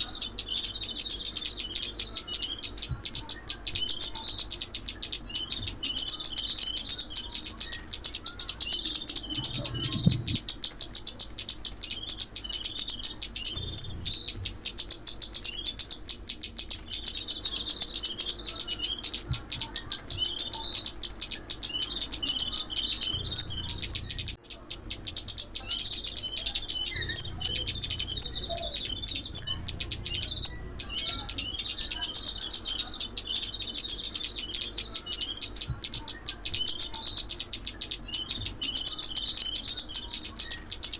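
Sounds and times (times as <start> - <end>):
sunbird twittering trills: 0.0 - 40.9.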